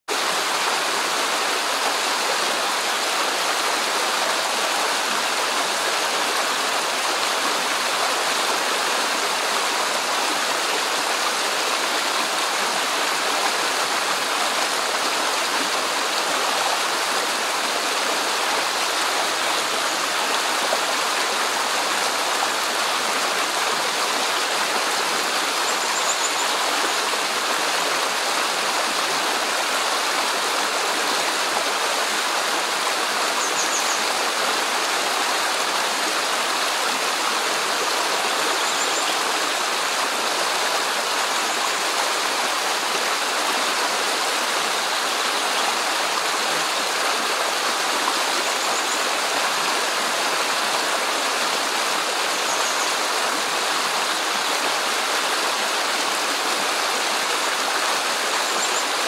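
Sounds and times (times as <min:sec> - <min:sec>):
stream rushing over stones: 0:00.1 - 0:59.0.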